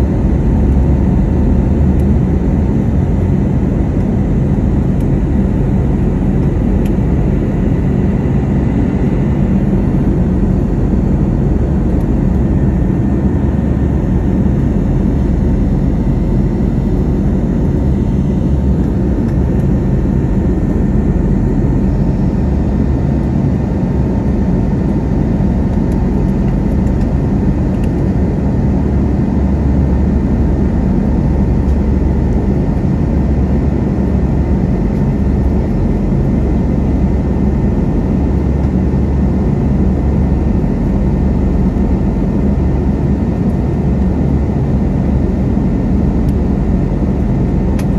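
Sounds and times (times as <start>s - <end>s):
jet engine low rumble: 0.0s - 47.9s.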